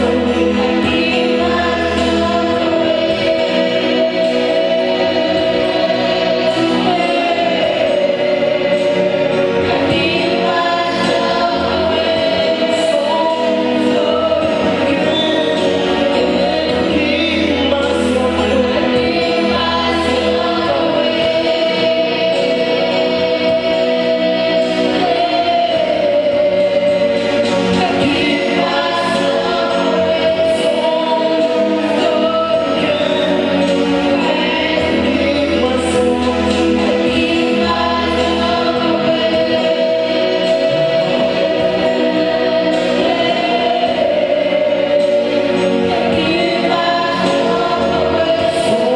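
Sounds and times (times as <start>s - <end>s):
choir singing gospel music: 0.0s - 48.9s.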